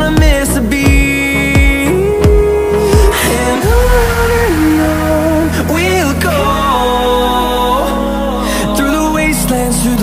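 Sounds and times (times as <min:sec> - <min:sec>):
pop music with drum beat: 0:00.0 - 0:10.0.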